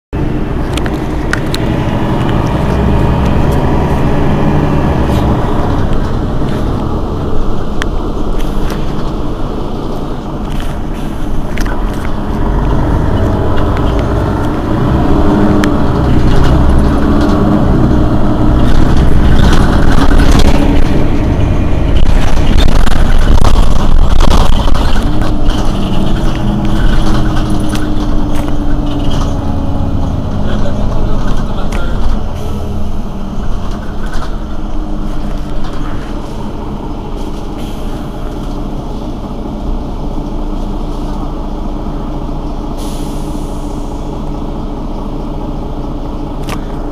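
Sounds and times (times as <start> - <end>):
bus engine running: 0.1 - 46.9.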